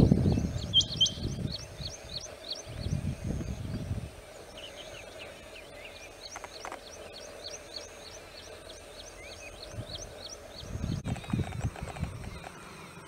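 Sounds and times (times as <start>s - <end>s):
faint background drone: 0.0s - 13.0s.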